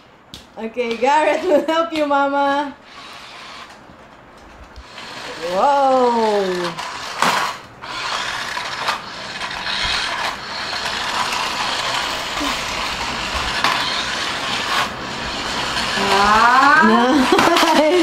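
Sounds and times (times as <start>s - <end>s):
toy car motor whirring: 1.2s - 1.7s, 2.8s - 3.8s, 4.8s - 18.0s.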